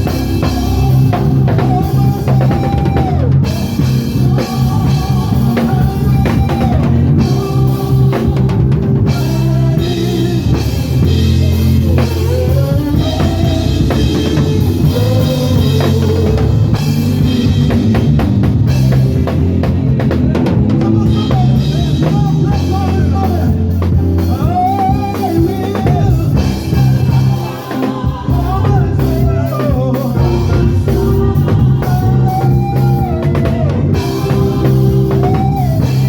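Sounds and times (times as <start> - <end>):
drum kit kick and snare: 0.0 - 36.0
gospel band music: 0.0 - 36.0
heavy bass line: 0.0 - 36.0
melodic lead: 0.0 - 36.0.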